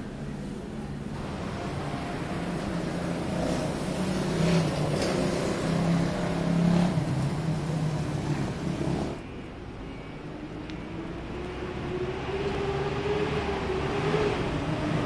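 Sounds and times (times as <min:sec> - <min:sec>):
motor vehicle low drone: 0:00.0 - 0:15.0.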